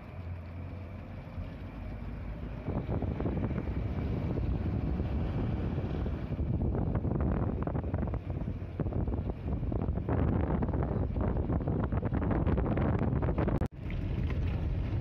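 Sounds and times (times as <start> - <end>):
vehicle rumble: 0.0 - 15.0
wind buffeting microphone: 1.8 - 15.0.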